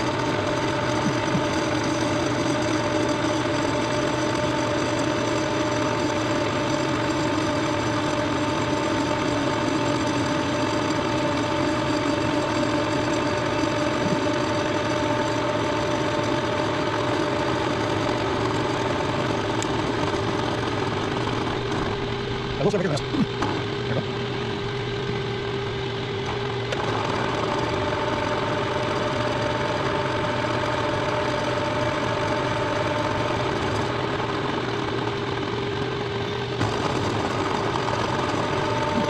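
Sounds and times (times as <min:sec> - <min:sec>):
milling machine running: 0:00.0 - 0:39.0.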